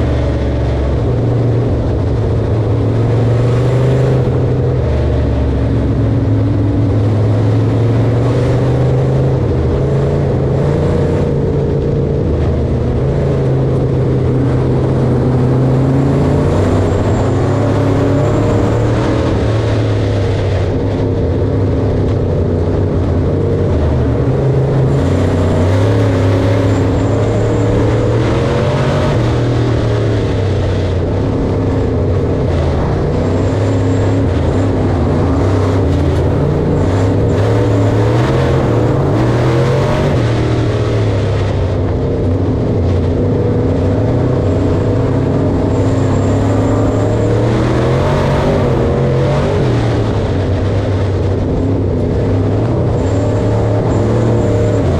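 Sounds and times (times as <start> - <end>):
harvester engine running: 0.0 - 54.9.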